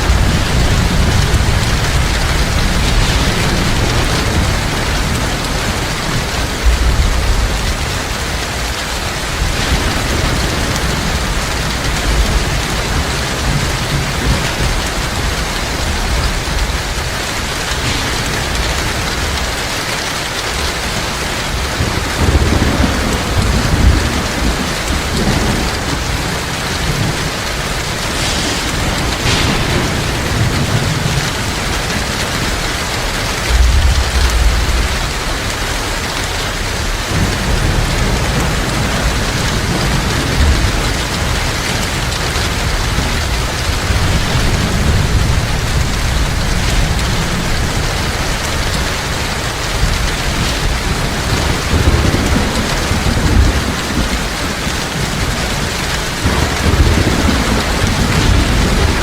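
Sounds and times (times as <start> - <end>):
heavy rain: 0.0 - 59.0
thunder rumbling: 0.0 - 59.0.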